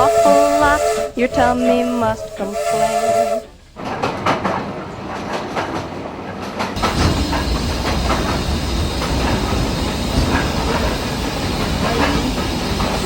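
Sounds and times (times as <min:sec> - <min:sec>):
steam train rumble and hiss: 0:00.0 - 0:13.0
train wheels clicking on track: 0:00.0 - 0:13.0.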